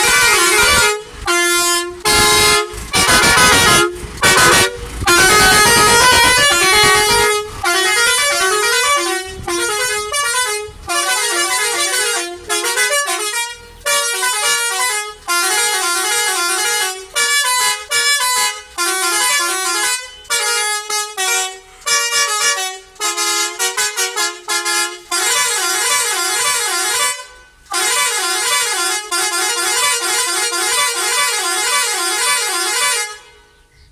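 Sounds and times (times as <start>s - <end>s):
multi-tone musical air horn: 0.0s - 33.7s.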